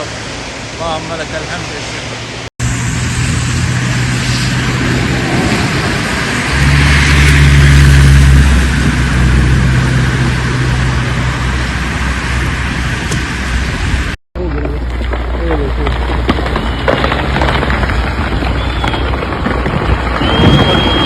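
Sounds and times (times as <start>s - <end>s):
loud rushing noise: 0.0s - 14.2s, 16.1s - 21.0s.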